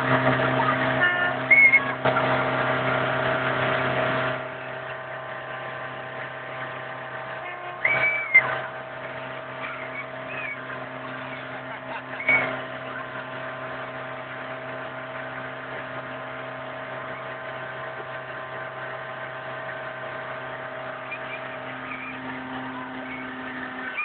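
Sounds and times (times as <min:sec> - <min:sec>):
motorboat engine droning: 0:00.0 - 0:24.0.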